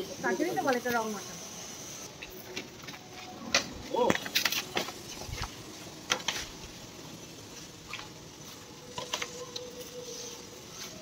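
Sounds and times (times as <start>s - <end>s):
firework hissing: 0.0s - 2.3s, 4.1s - 11.0s.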